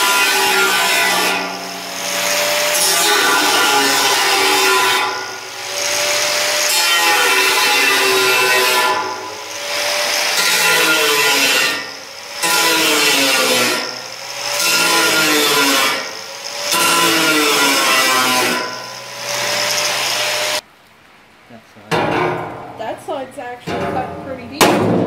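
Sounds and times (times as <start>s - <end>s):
angle grinder cutting metal: 0.0s - 20.6s.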